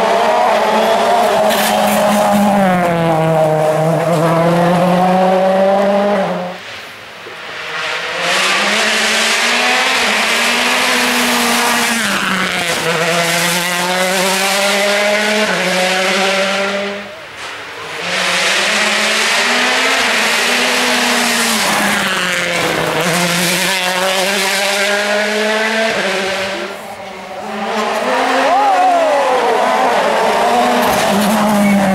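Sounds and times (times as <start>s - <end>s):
rally car engine at high revs: 0.0s - 31.9s.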